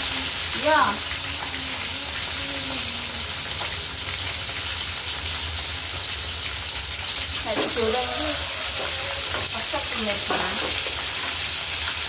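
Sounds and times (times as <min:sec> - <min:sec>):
chicken wings frying in oil: 0:00.0 - 0:12.0.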